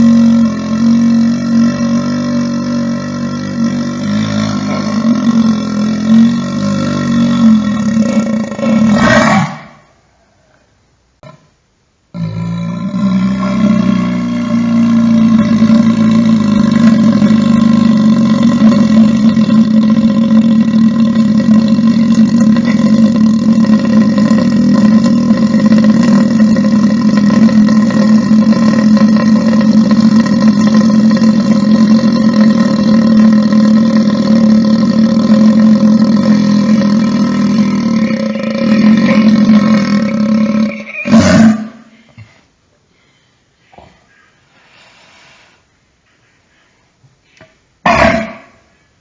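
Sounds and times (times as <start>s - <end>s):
long loud belch: 0.0s - 10.0s, 11.2s - 11.5s, 12.1s - 42.2s, 47.8s - 48.8s.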